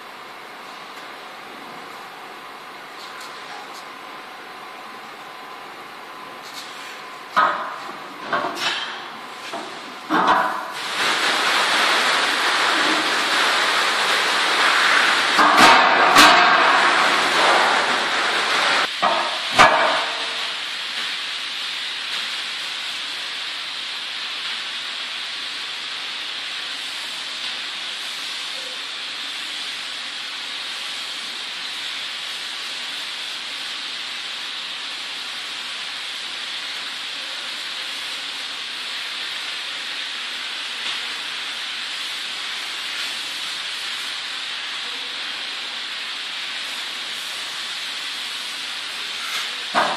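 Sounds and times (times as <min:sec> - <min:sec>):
steady hiss: 0:00.0 - 0:49.9.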